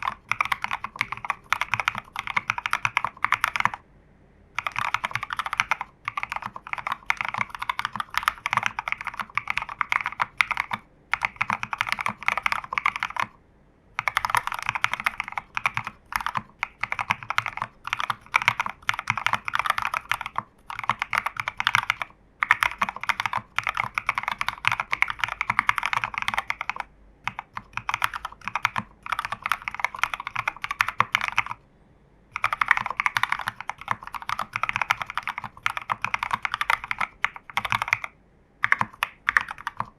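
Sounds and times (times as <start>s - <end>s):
fast typing on keyboard: 0.0s - 3.8s, 4.6s - 13.4s, 14.0s - 31.6s, 32.3s - 39.9s.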